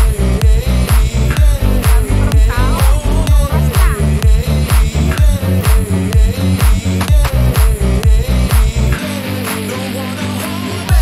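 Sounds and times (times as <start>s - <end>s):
kick drum beat: 0.0s - 9.0s
dance music with held chords: 0.0s - 11.0s.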